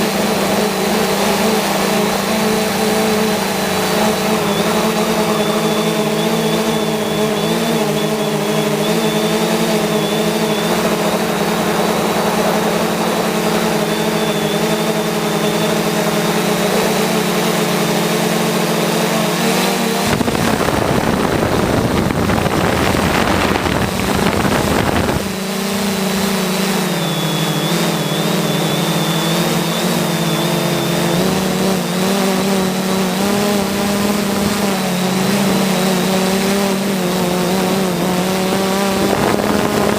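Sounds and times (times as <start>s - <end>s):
aircraft propellers humming: 0.0s - 39.9s
rush of noise: 0.0s - 39.9s
thin high whine: 0.0s - 39.9s.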